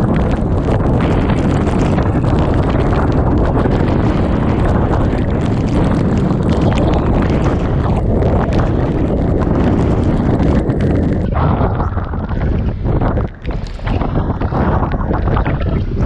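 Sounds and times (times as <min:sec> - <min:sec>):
strong wind buffeting microphone: 0:00.0 - 0:16.0
torrential rain lashing: 0:00.0 - 0:16.0.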